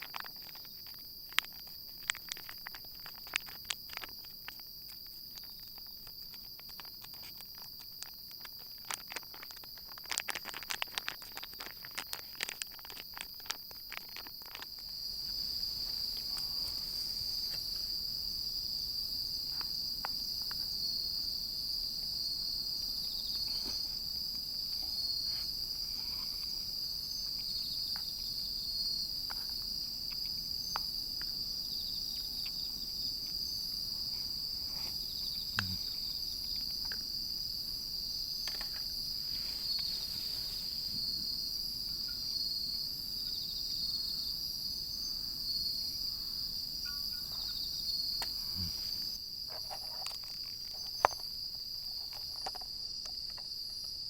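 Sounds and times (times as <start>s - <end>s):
insects singing: 0.0s - 54.0s.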